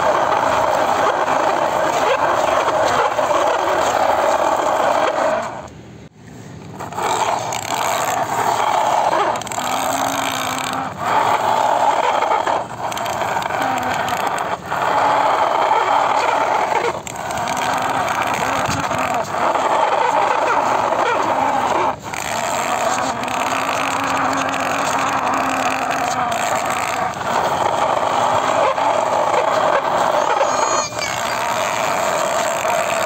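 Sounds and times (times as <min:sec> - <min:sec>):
toy wheels grinding through sand: 0:00.0 - 0:05.7, 0:06.6 - 0:33.0.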